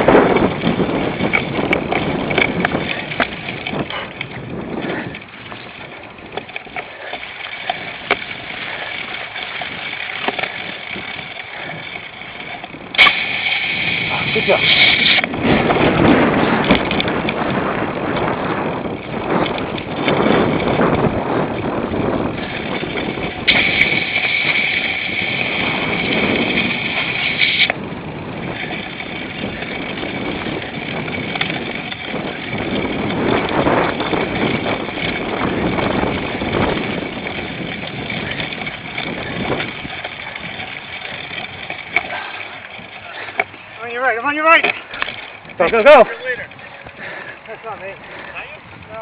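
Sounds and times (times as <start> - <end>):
bicycle rattling over rough ground: 0.0 - 49.0.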